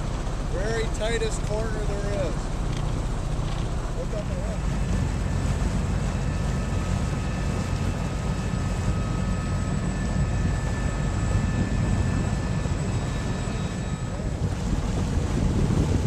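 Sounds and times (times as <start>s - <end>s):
boat engine low drone: 0.0s - 16.0s.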